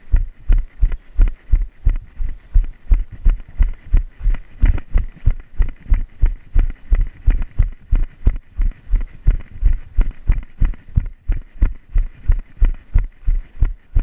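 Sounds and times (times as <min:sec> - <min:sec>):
footsteps running on dirt: 0:00.0 - 0:14.0.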